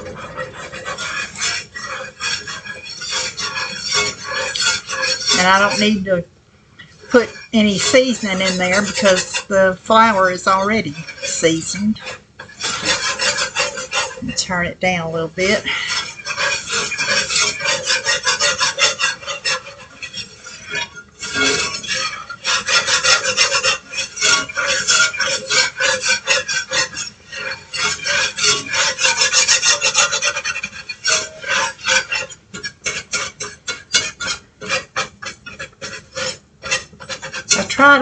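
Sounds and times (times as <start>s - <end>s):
utensil scraping skillet: 0.0s - 38.0s.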